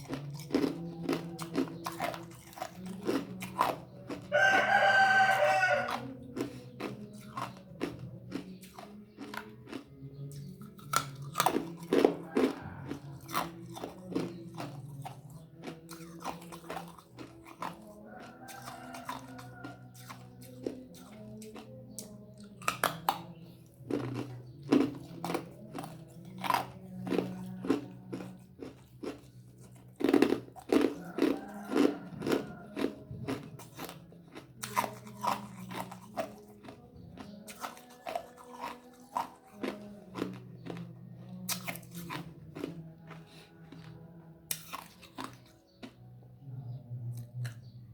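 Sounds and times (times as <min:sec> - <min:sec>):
ice cubes being chewed: 0:00.0 - 0:46.0.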